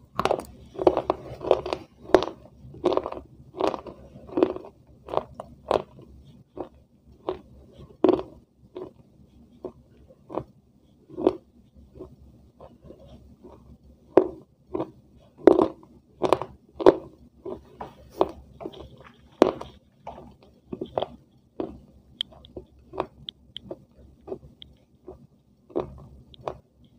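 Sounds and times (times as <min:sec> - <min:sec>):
person chewing and biting food: 0:00.0 - 0:10.5, 0:11.1 - 0:26.9.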